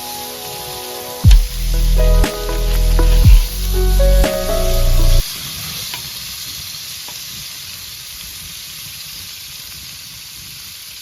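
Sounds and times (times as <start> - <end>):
food sizzling on a grill: 0.3 - 4.0, 4.7 - 11.0.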